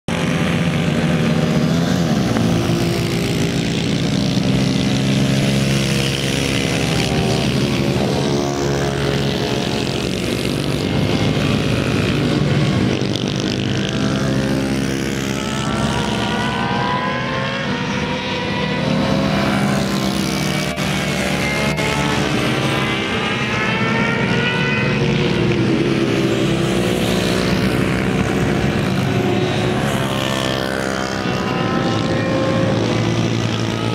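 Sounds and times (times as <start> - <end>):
minibike engine revving: 0.1 - 33.9.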